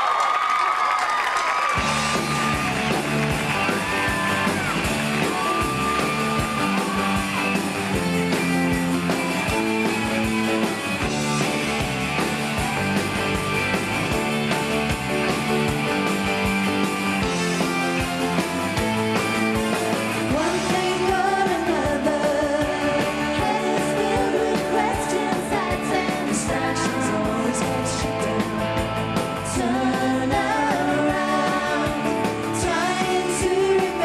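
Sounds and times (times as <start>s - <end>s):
bass: 0.0s - 34.0s
drum kit: 1.7s - 34.0s
keyboard: 1.7s - 34.0s
electric guitars: 1.8s - 34.0s.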